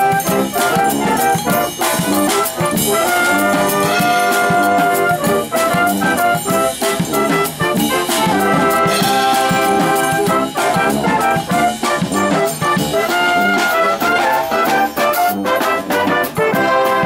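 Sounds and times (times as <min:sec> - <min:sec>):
brass band playing: 0:00.0 - 0:17.0
drum kit beat: 0:00.0 - 0:17.0.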